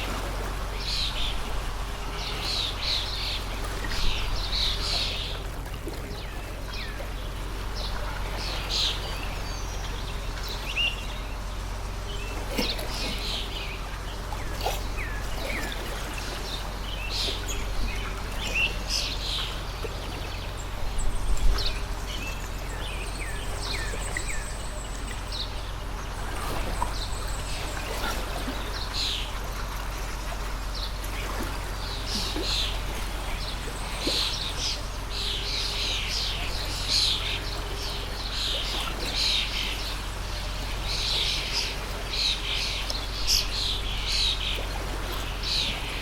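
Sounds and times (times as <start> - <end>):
flowing stream: 0.0 - 46.0
small birds chirping: 0.7 - 46.0.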